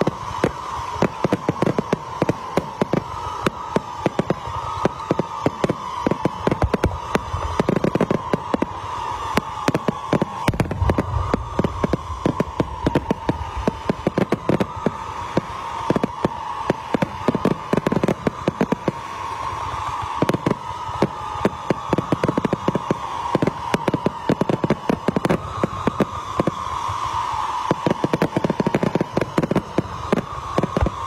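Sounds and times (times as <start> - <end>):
fireworks bangs: 0.0 - 31.0
fireworks whistling hiss: 0.0 - 31.0.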